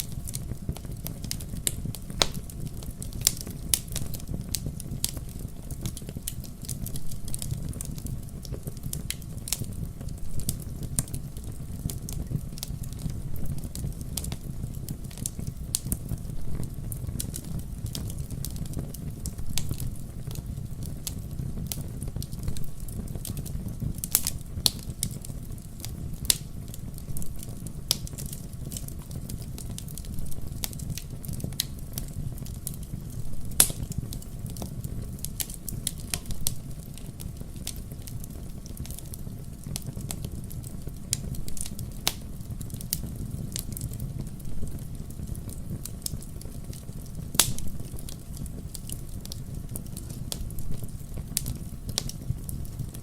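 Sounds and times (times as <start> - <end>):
fire crackles and pops: 0.0 - 53.0
fire rumbling in fireplace: 0.0 - 53.0.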